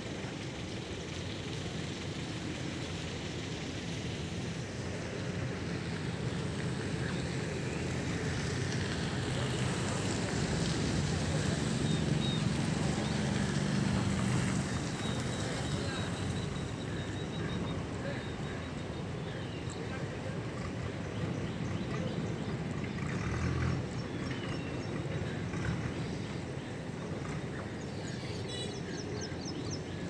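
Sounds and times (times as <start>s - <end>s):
distant water rushing: 0.0s - 30.0s.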